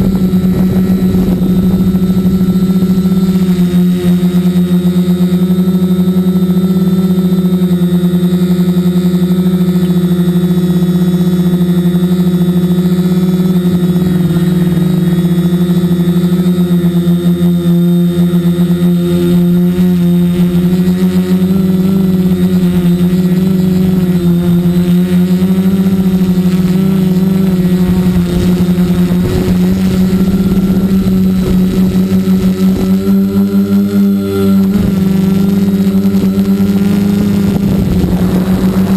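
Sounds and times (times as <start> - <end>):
drone propellers buzzing: 0.0 - 38.9.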